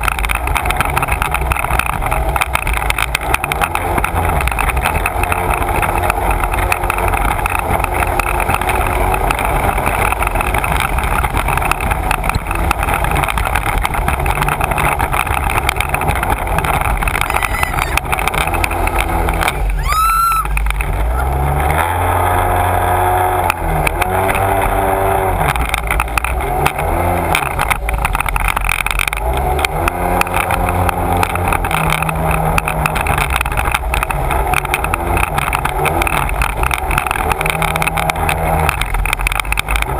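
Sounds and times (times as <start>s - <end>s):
watercraft engine running: 0.0s - 39.9s.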